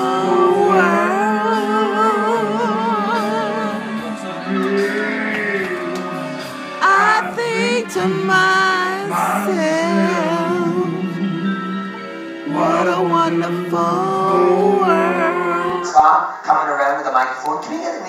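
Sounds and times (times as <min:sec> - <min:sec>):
person singing with vibrato: 0:00.0 - 0:16.2
backing music: 0:00.0 - 0:16.4.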